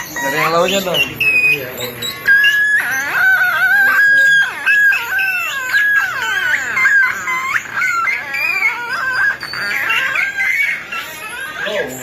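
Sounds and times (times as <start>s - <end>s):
electronic squealing tones: 0.0s - 12.0s.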